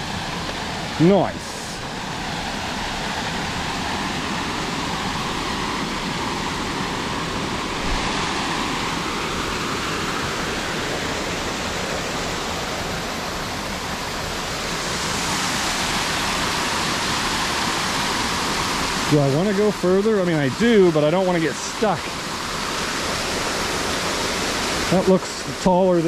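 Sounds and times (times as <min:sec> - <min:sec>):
stream cascading over boulders: 0:00.0 - 0:26.0.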